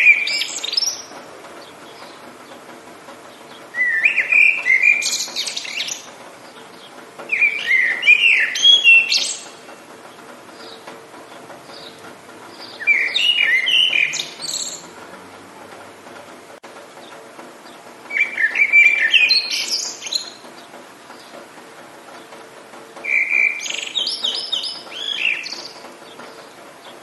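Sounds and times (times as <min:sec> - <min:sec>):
faint rain hiss: 0:00.0 - 0:27.0
songbird singing: 0:00.0 - 0:27.0.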